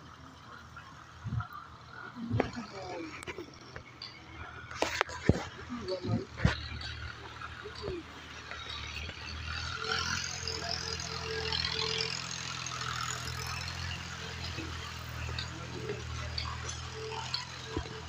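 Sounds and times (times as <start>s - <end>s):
concrete mixer engine humming: 0.0s - 18.0s.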